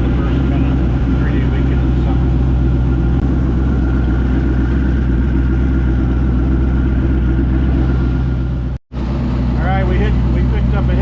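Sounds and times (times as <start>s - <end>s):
jet boat engine droning: 0.0s - 11.0s.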